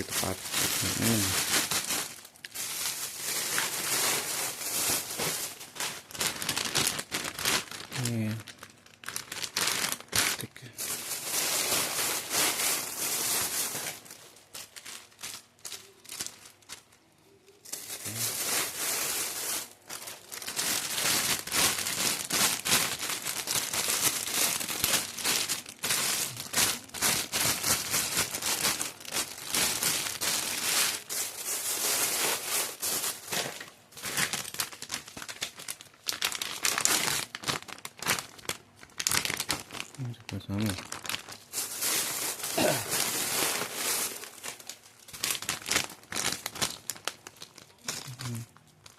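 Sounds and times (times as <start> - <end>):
plastic wrappers crinkling: 0.0 - 48.9.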